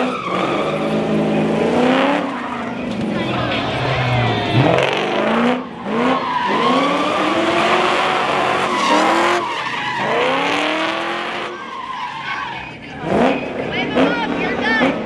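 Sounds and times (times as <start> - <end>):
car engine revving hard: 0.0 - 11.6, 12.9 - 15.0
tyres squealing: 0.0 - 14.2.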